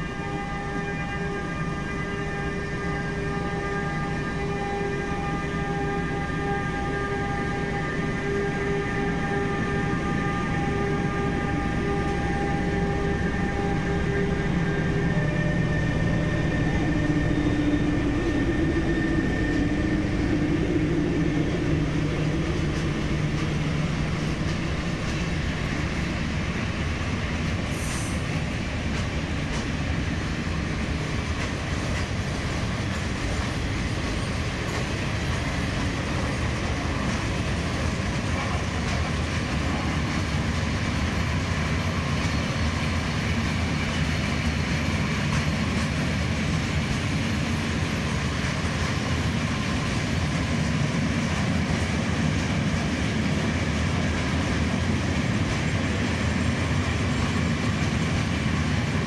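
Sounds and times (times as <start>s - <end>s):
locomotive whine: 0.0s - 59.0s.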